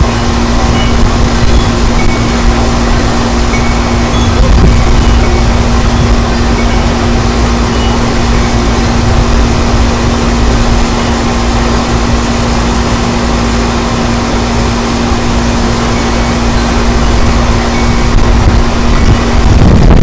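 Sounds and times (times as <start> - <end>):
steady hum: 0.0 - 20.0
wind buffeting microphone: 0.0 - 20.0.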